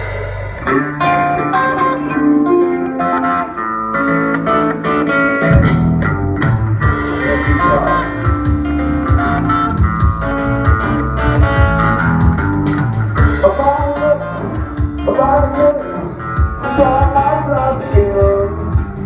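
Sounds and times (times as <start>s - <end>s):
bass guitar: 0.0s - 19.0s
drums: 0.0s - 19.0s
electric guitar lead: 0.0s - 19.0s.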